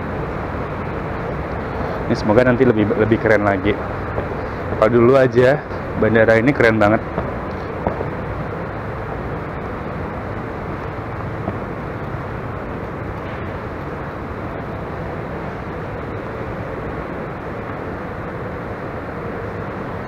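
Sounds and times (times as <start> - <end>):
airport terminal hum: 0.0 - 20.0.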